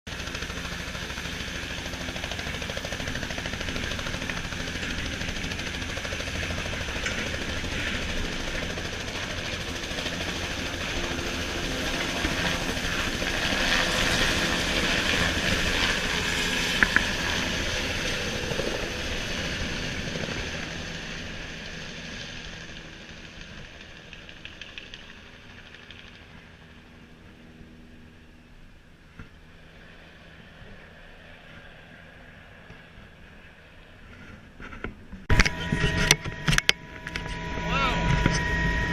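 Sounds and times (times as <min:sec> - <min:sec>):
helicopter rotor chop: 0:00.1 - 0:28.5, 0:34.0 - 0:38.9.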